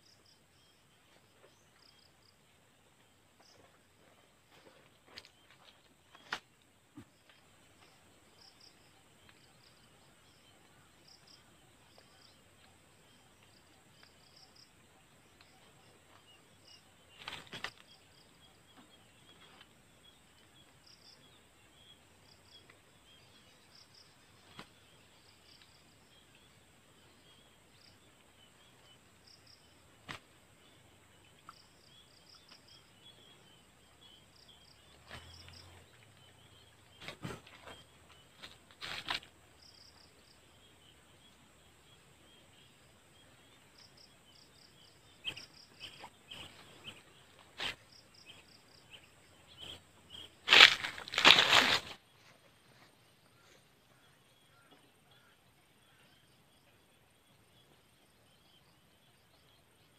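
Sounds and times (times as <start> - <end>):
faint insects chirping: 0.0 - 59.9
rural ambience: 0.0 - 59.9.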